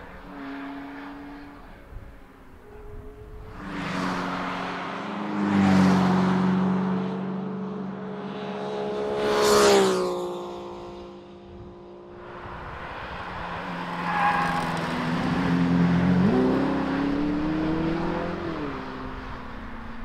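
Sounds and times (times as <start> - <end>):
sports cars driving past: 0.0 - 20.0.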